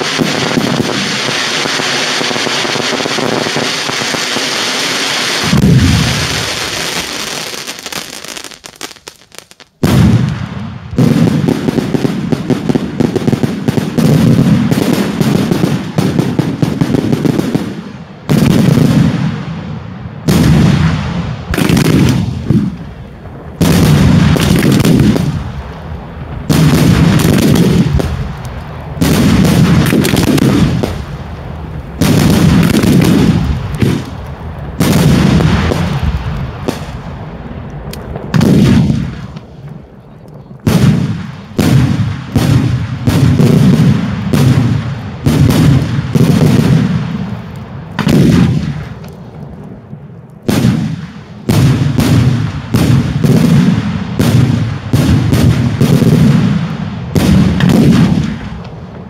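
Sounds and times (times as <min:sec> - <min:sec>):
firework bangs with rumbling echo: 0:00.0 - 0:08.6, 0:09.7 - 0:59.0.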